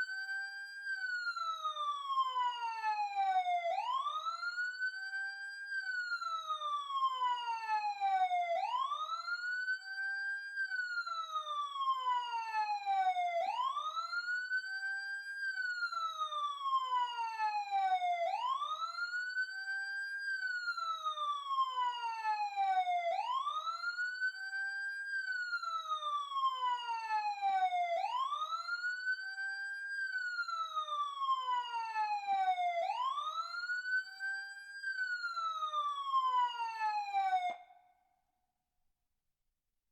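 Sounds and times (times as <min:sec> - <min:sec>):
police siren wailing: 0:00.0 - 0:37.8.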